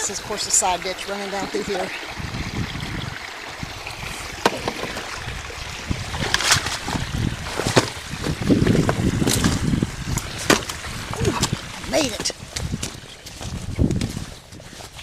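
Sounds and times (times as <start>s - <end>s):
running water: 0.0s - 15.0s
wind rumble on microphone: 0.0s - 15.0s.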